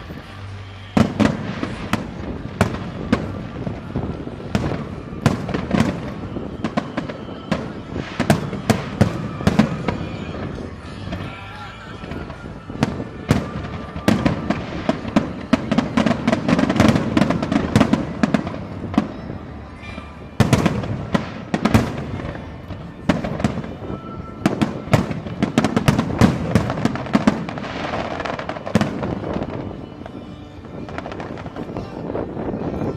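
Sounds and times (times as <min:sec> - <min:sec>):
fireworks bangs and crackling: 0:00.0 - 0:32.9.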